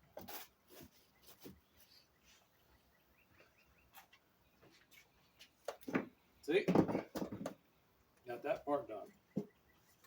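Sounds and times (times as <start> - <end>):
bird chirping: 0.6 - 6.6, 7.5 - 10.0.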